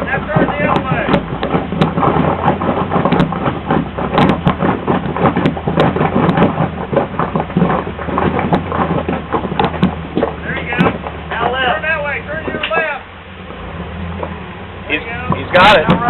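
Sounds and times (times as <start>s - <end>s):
dense rushing noise: 0.0s - 16.0s
engine idling: 0.0s - 16.0s.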